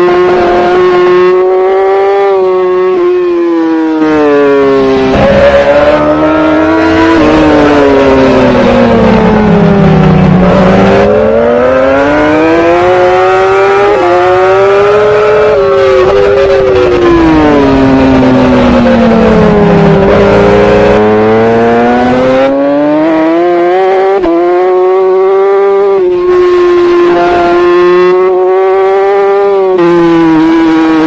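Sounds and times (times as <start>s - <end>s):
superbike engine revving: 0.0s - 31.0s.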